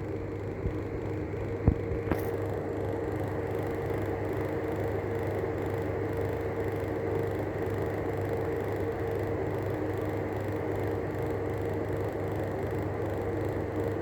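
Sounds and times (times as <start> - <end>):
exhaust fan humming and whirring: 0.0 - 14.0.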